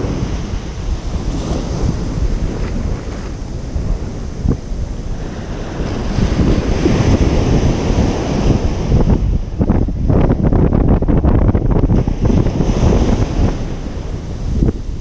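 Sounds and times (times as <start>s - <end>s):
ocean surf washing onto beach: 0.0s - 15.0s
wind buffeting microphone: 0.0s - 15.0s.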